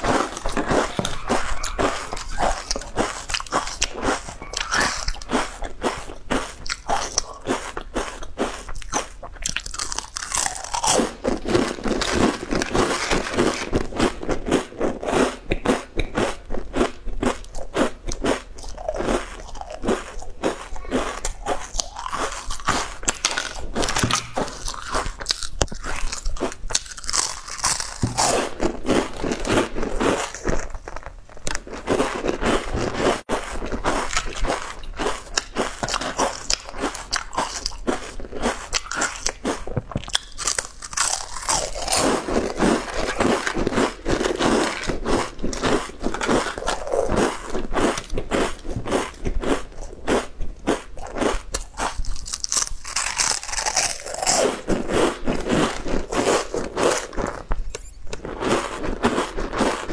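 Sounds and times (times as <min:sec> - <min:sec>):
crunching crisp chips: 0:00.0 - 0:59.9.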